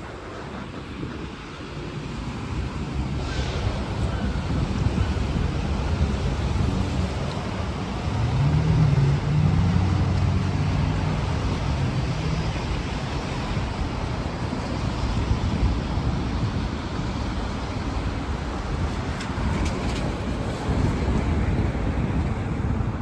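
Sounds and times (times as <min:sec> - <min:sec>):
rain and wet road noise: 0:00.0 - 0:23.0.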